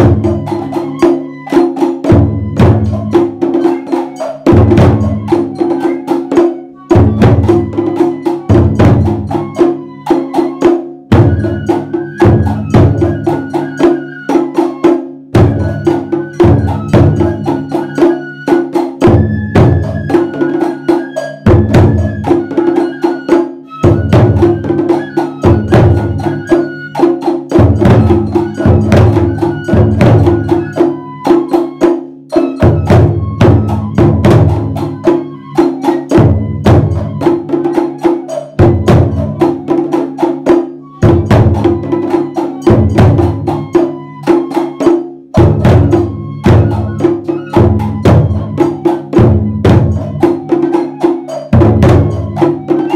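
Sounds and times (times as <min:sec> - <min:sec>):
bamboo flute melody: 0:00.0 - 0:52.9
taiko drums beaten fast: 0:00.0 - 0:52.9.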